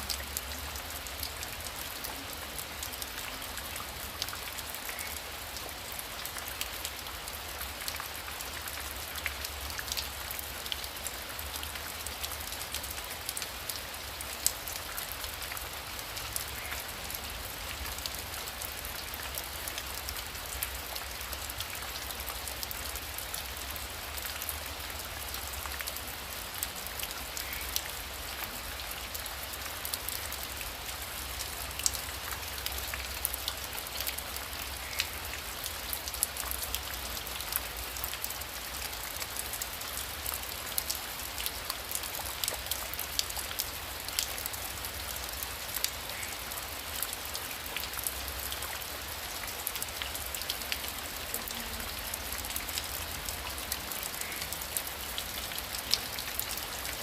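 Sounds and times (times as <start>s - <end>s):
heavy rain falling: 0.0s - 57.0s
raindrops ticking: 0.0s - 57.0s.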